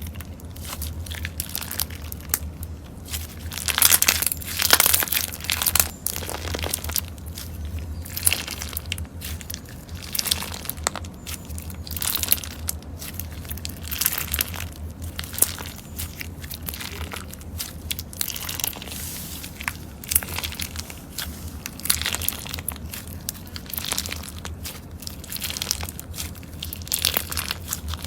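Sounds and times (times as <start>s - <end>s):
slime crackling and popping: 0.0s - 28.0s.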